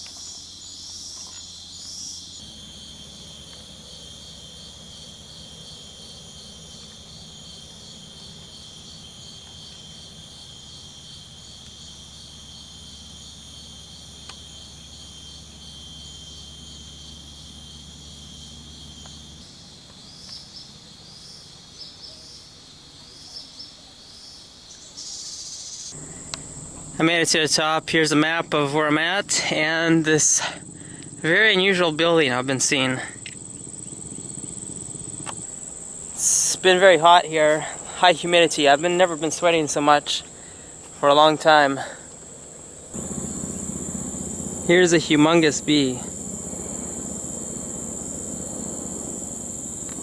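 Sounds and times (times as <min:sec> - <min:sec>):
crickets chirring: 0:00.0 - 0:50.0
evenly pulsing insect call: 0:00.0 - 0:50.0.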